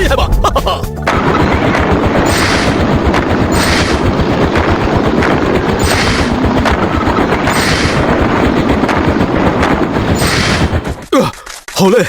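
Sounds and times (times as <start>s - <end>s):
hissing noise: 1.1s - 11.0s
fast mechanical rattle: 1.1s - 11.6s.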